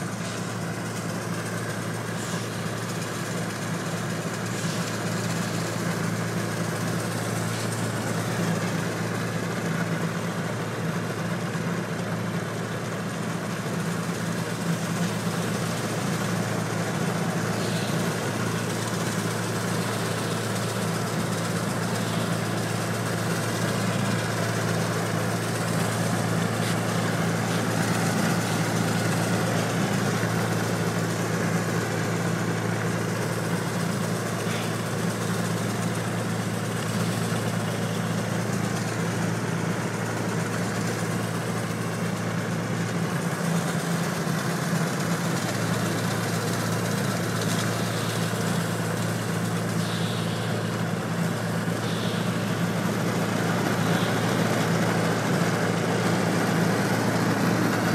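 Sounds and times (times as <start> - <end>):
snow blower mechanical drone: 0.0 - 57.9.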